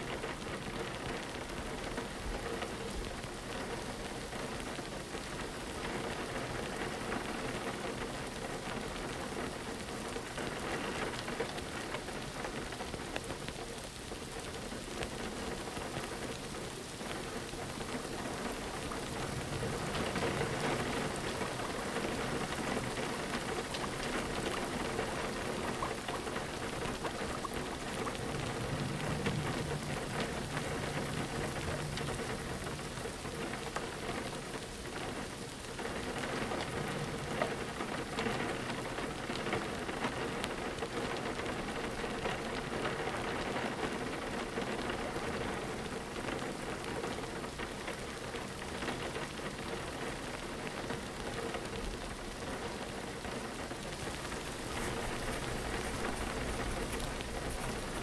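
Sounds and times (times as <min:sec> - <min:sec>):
rain falling on a window: 0:00.0 - 0:58.0.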